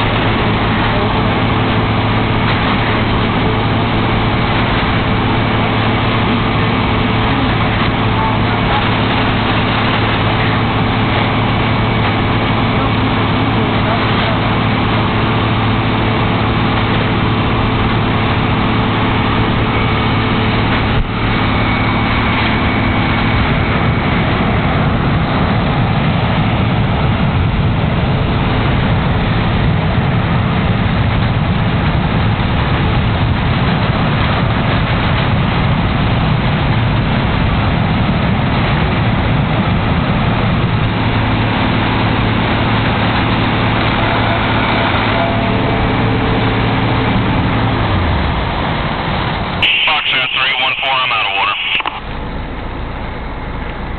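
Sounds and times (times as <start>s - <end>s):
dense rushing noise: 0.0s - 53.9s
diesel engine running: 0.0s - 53.9s.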